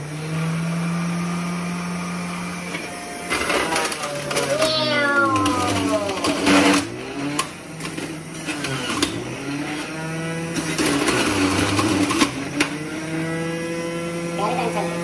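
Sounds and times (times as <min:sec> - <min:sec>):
electric juicer motor running: 0:00.0 - 0:15.0.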